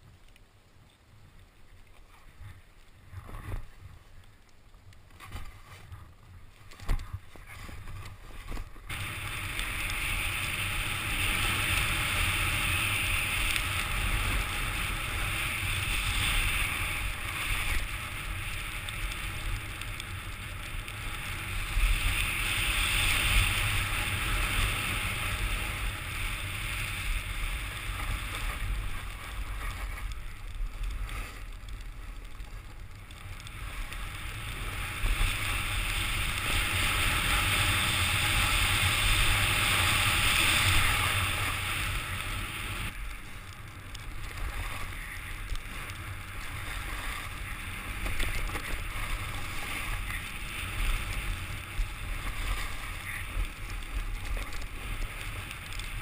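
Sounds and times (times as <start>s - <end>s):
skis scraping over snow: 0.0s - 56.0s
wind rumbling on microphone: 0.0s - 56.0s.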